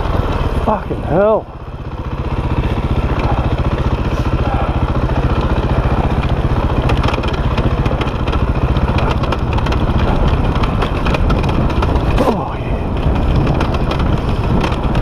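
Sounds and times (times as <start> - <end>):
dirt bike engine running: 0.0 - 15.0
bike clattering over rough ground: 2.2 - 15.0.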